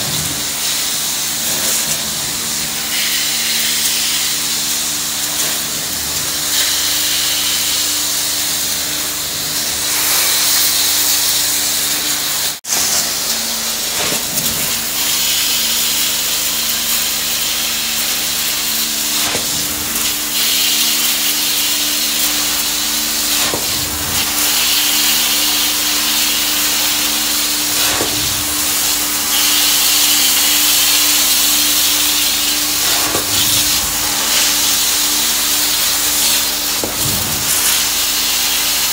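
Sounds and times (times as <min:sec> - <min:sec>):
constant machine hum: 0:00.0 - 0:38.9
vacuum rushing hiss: 0:00.0 - 0:38.9.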